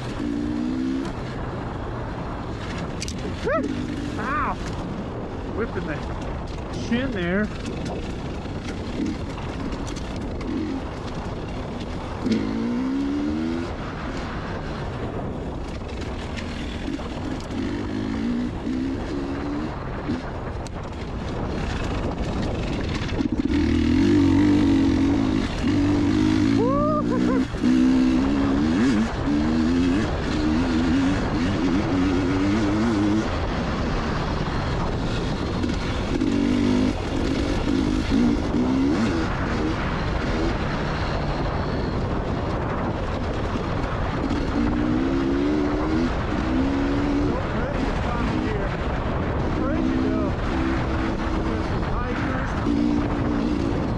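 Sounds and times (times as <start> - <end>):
two-stroke dirt bike revving: 0.0 - 53.9.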